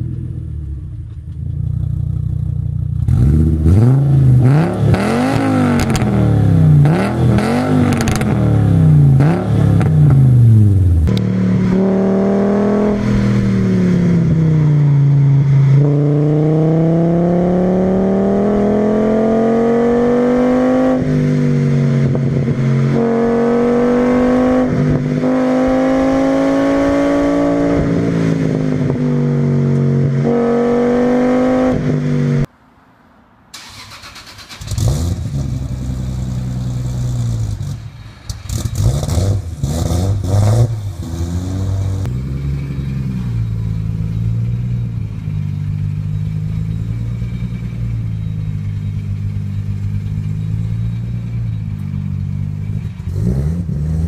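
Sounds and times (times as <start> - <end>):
car engine revving: 0.0 - 32.5, 33.6 - 54.0.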